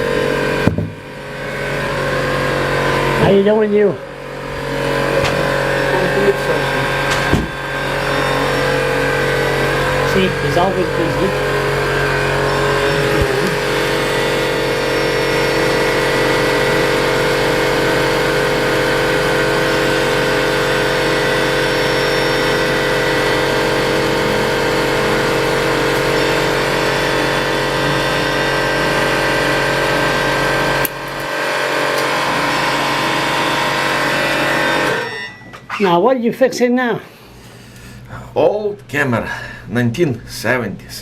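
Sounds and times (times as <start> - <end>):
machine humming: 0.0 - 35.8.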